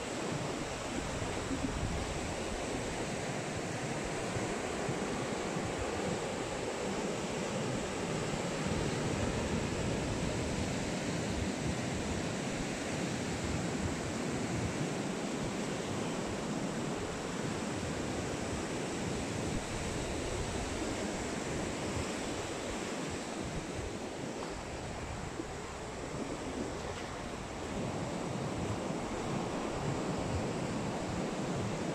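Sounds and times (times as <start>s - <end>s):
wind buffeting microphone: 0.2s - 31.9s.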